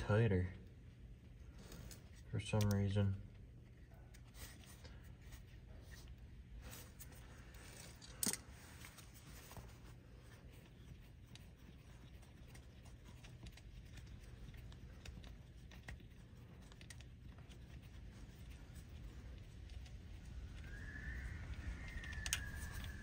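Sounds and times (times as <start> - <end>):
steady low hum: 0.0 - 23.0
small clicks and light scraping: 1.2 - 20.7, 21.7 - 23.0.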